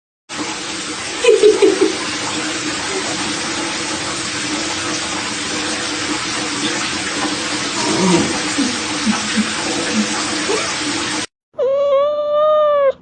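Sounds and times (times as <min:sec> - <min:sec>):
water running from a tap: 0:00.3 - 0:11.3.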